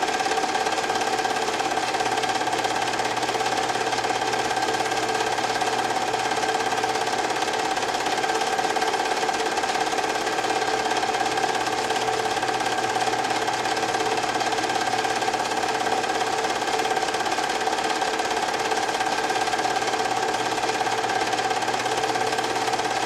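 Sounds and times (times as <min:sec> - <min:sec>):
film projector clattering: 0:00.0 - 0:23.0.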